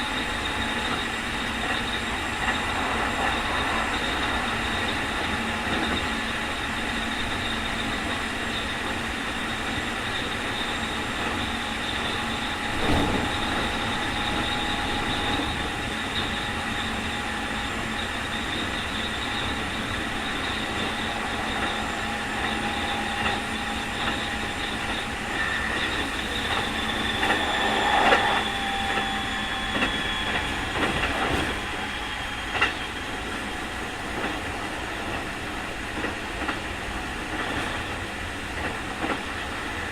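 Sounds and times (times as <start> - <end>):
high electric motor whine: 0.0 - 35.5
train wheel and rail noise: 0.0 - 39.9.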